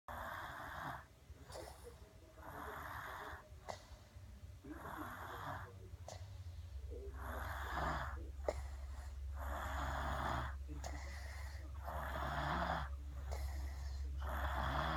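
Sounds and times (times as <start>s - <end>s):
baby snoring: 0.1s - 3.9s, 4.7s - 5.8s, 7.0s - 14.9s
low steady hum: 0.1s - 14.9s.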